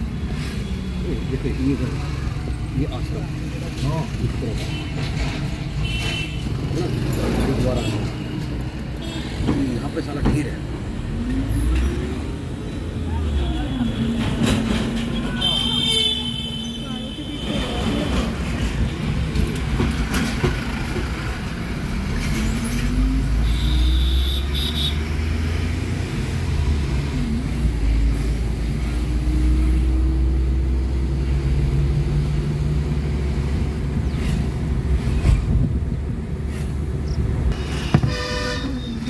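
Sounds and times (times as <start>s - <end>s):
road rumble: 0.0s - 39.0s.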